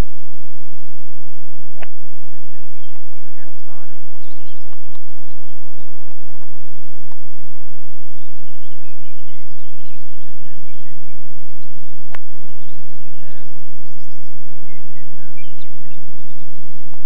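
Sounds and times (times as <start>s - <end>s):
steady low hum: 0.0s - 17.0s
birds chirping: 1.6s - 17.0s.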